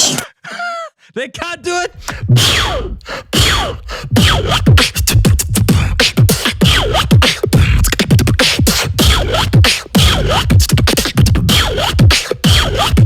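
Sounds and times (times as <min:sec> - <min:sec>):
person beatboxing: 0:00.0 - 0:00.3, 0:01.4 - 0:13.0.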